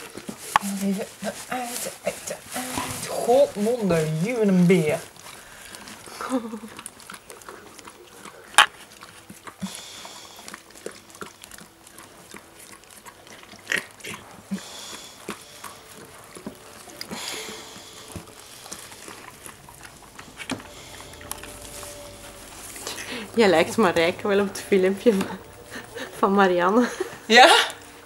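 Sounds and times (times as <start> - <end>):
dog licking and snuffling: 0.0 - 26.2.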